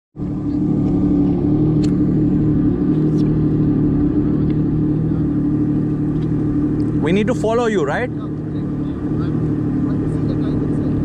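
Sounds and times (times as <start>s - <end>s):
jet ski engine idling: 0.2s - 11.0s.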